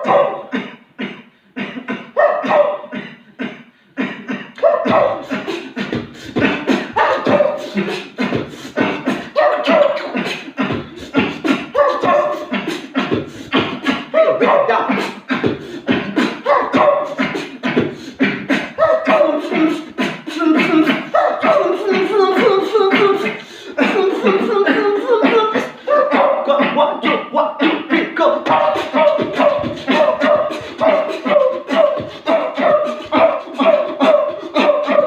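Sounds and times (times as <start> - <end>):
beatboxing with cough sounds: 0.0 - 35.0.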